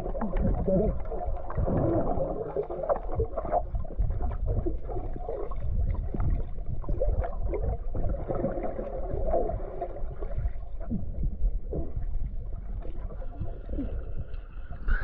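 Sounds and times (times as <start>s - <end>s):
bubbly blips and knocks: 0.0s - 15.0s
low rumble: 0.0s - 15.0s
water sloshing and gurgling: 0.0s - 15.0s.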